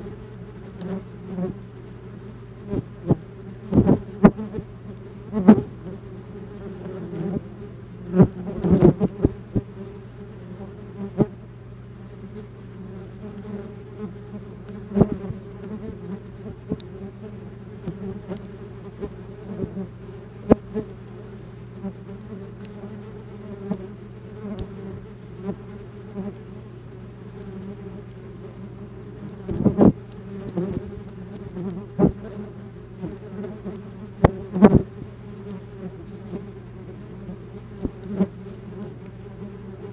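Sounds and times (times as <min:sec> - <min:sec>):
wasps buzzing: 0:00.0 - 0:39.9.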